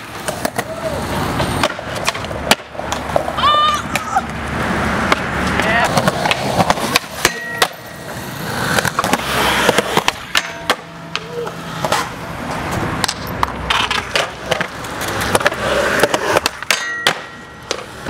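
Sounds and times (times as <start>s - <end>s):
skateboard wheels rolling on concrete: 0.0s - 18.0s
skateboards clacking on ground: 0.0s - 18.0s.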